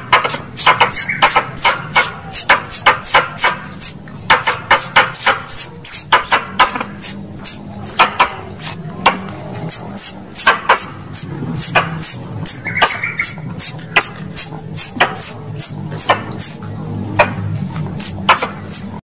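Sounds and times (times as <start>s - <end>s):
low steady hum: 0.0s - 19.0s
high-pitched lure call chirps: 0.8s - 8.8s, 9.7s - 16.6s, 18.0s - 19.0s.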